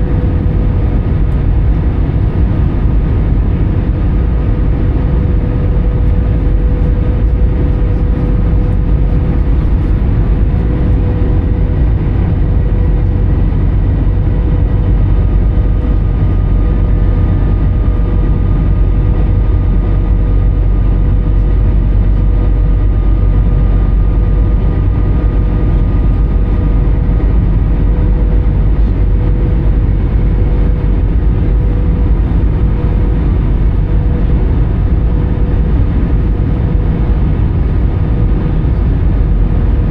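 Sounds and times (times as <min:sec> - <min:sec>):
aircraft cabin rumble: 0:00.0 - 0:39.9
steady hum tone: 0:00.0 - 0:39.9.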